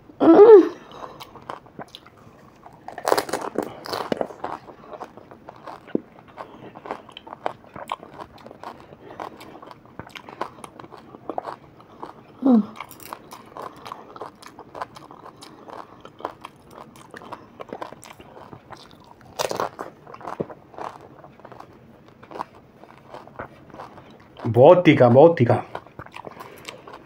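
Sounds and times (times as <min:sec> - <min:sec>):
crunchy shells being chewed: 0:00.9 - 0:27.0.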